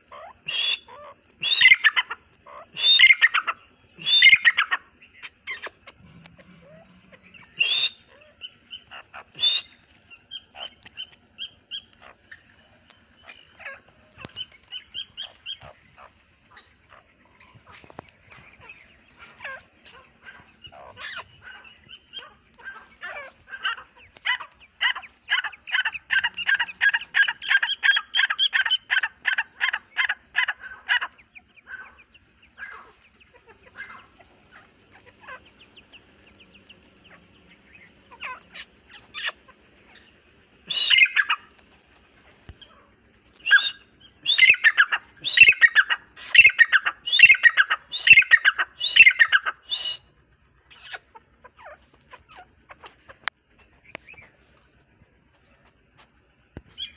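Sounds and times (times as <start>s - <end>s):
francolins calling: 0.0s - 56.9s.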